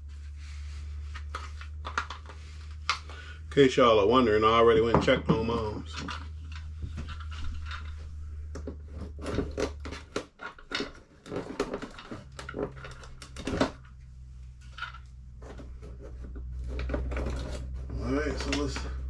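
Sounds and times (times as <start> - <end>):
hands handling electrical wiring: 0.0 - 3.5, 4.3 - 19.0.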